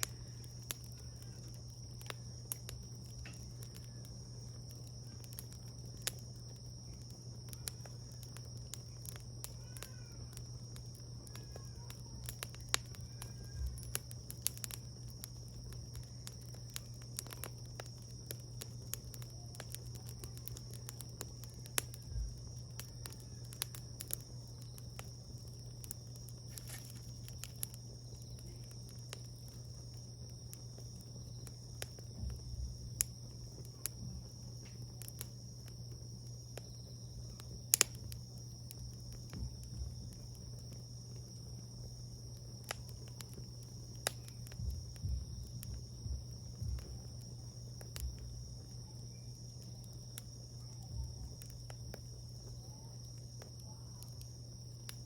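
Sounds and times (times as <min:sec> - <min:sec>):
crickets trilling: 0:00.0 - 0:55.0
low steady hum: 0:00.0 - 0:55.0
wood fire crackling and popping: 0:00.0 - 0:55.0.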